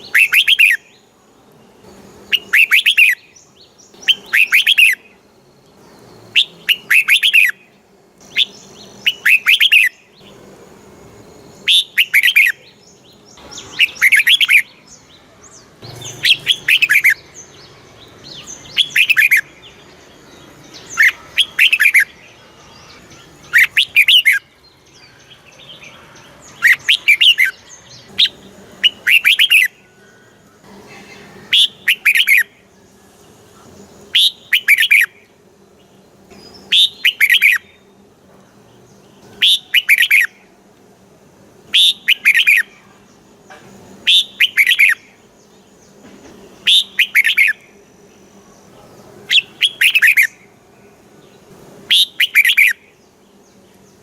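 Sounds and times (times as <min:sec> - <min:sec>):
bird singing bright falling notes: 0:00.0 - 0:40.9, 0:41.6 - 0:54.0.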